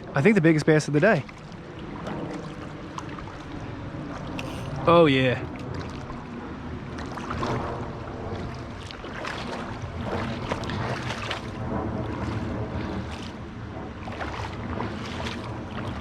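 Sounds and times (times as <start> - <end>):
creek water rushing: 0.0 - 16.0
wind rumbling on microphone: 0.0 - 16.0
short splashes and clicks: 1.0 - 4.8, 5.4 - 6.3, 6.9 - 13.4, 14.0 - 16.0.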